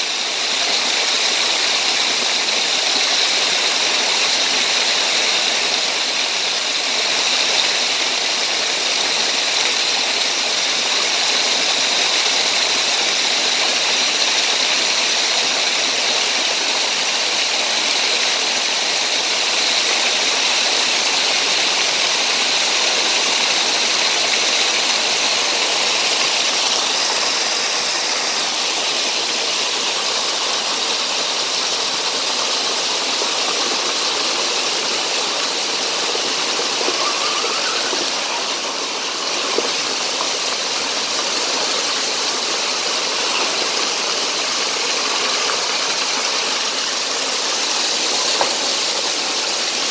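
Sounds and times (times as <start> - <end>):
waterfall splashing onto rocks: 0.0 - 49.9.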